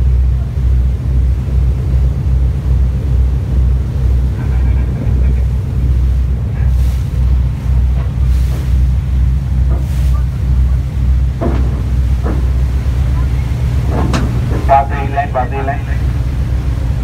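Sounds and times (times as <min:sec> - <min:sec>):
boat diesel engines throbbing: 0:00.0 - 0:17.0.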